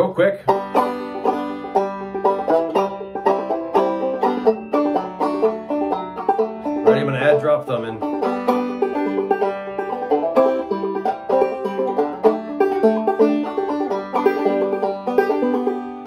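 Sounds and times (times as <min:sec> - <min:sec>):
banjo played clawhammer style: 0:00.0 - 0:16.0.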